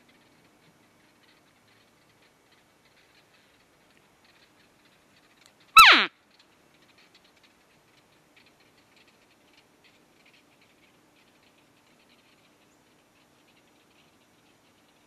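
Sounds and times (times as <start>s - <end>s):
faint ticks: 0.0s - 5.7s, 6.3s - 15.0s.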